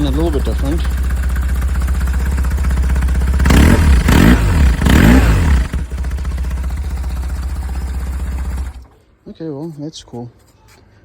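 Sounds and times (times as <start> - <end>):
motorcycle engine idling and revving: 0.0 - 9.0.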